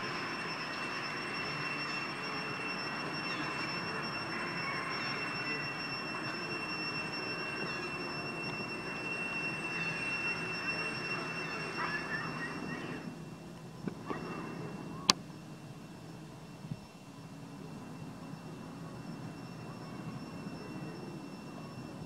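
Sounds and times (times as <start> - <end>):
high-pitched whine: 0.0 - 22.0
outdoor background noise: 0.0 - 22.0.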